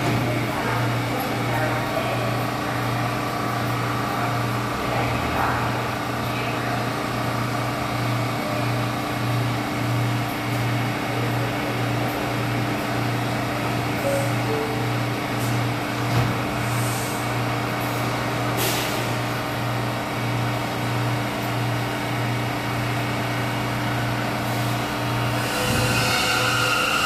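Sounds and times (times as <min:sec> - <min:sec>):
subway train pulsing hum: 0:00.0 - 0:27.0.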